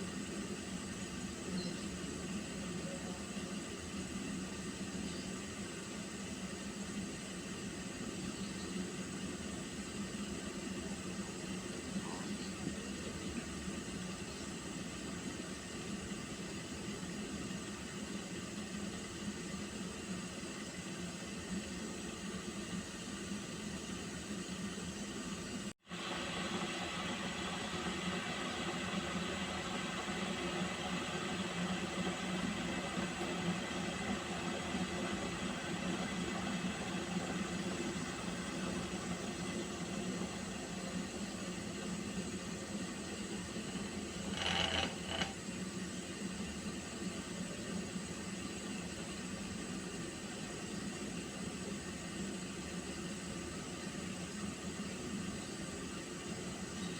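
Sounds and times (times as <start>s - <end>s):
boiling water hiss: 0.0s - 56.9s.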